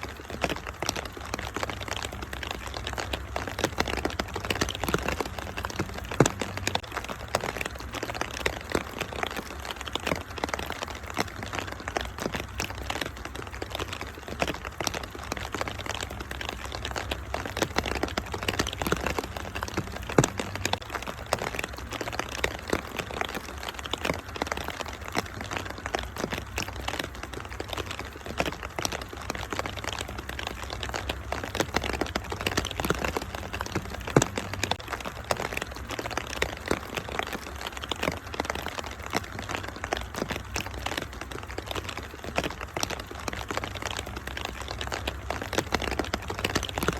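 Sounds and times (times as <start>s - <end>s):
fire crackling and popping: 0.0s - 46.9s
low fire rumble: 0.0s - 46.9s.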